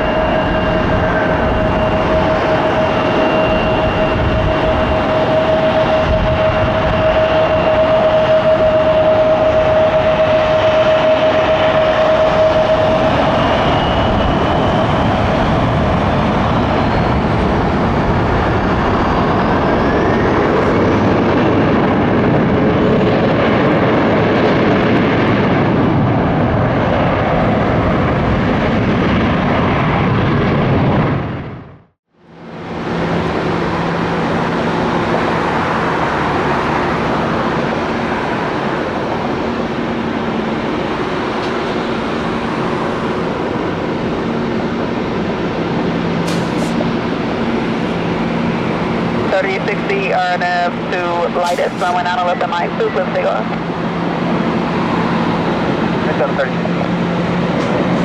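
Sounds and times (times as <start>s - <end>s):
high rising whines: 0.0s - 31.6s, 32.3s - 58.0s
engine whine: 0.0s - 58.0s
jet engines running: 0.0s - 58.0s.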